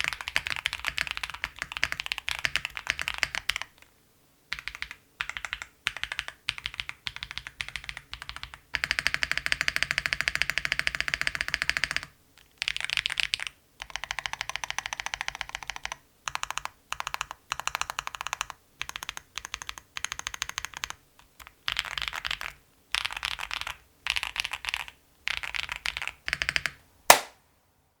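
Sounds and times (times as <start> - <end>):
mechanical keyboard typing: 0.0 - 3.9, 4.5 - 26.8.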